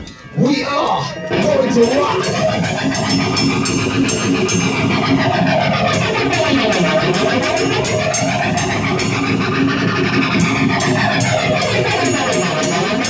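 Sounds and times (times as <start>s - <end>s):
guitar with sweeping effect: 1.1s - 13.0s
sharp high ticks: 1.4s - 13.0s.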